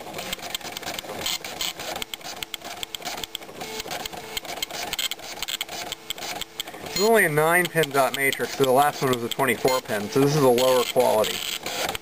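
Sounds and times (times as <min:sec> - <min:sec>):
dot matrix printer buzzing: 0:00.0 - 0:12.0.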